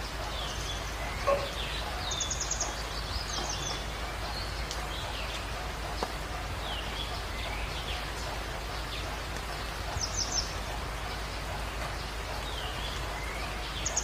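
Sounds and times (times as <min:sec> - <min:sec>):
birds chirping: 0:00.0 - 0:14.0
steady hiss: 0:00.0 - 0:14.0.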